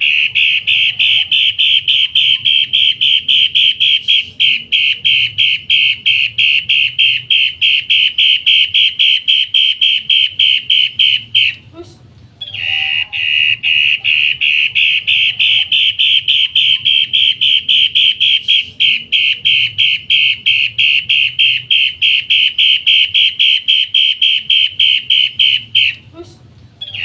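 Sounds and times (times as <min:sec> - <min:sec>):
bird calling harsh notes: 0:00.0 - 0:11.7, 0:12.4 - 0:26.0.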